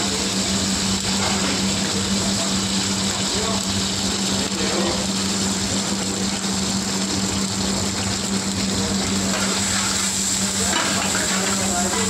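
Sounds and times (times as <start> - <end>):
gas stove rushing hiss: 0.0 - 12.0.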